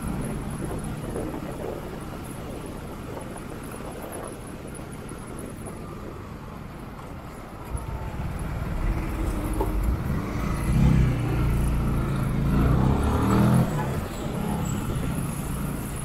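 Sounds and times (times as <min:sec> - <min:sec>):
motorcycle road and wind noise: 0:00.0 - 0:16.0
vehicle engine: 0:00.0 - 0:16.0.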